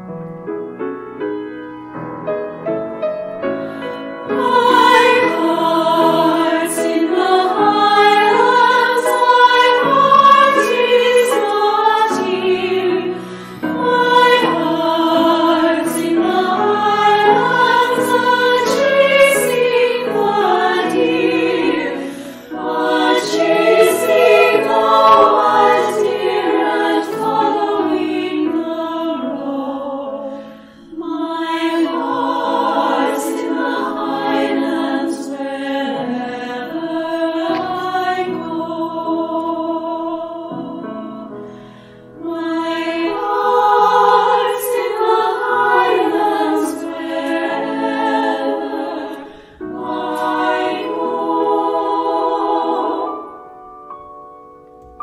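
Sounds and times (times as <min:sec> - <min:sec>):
choir singing: 0:03.4 - 0:41.5, 0:42.2 - 0:54.1.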